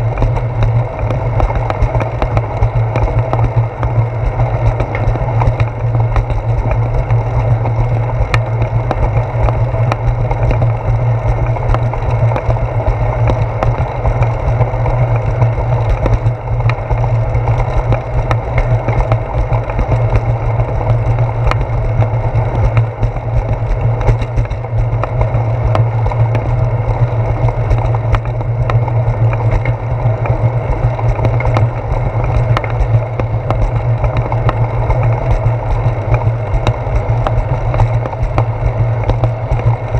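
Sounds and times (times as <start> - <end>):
bicycle rumbling on concrete: 0.0 - 39.9
small clicks and rattles: 0.0 - 39.9.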